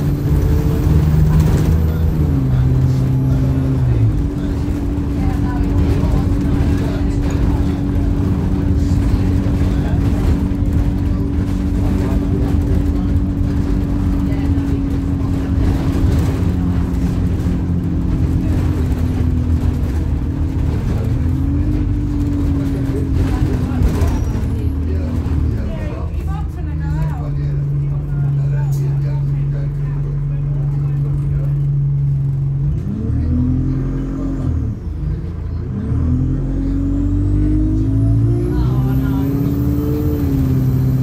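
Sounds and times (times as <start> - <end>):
bus engine running hard: 0.0 - 41.0.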